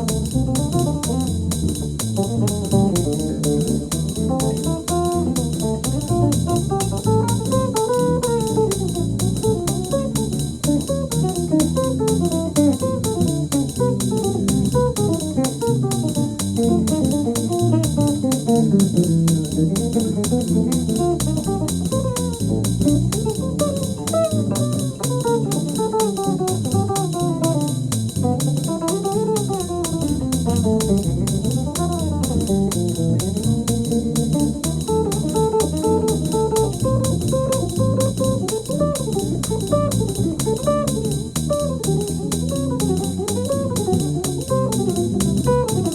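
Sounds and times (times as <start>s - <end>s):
bass: 0.0s - 45.9s
drums: 0.0s - 45.9s
jazz guitar: 0.0s - 45.9s.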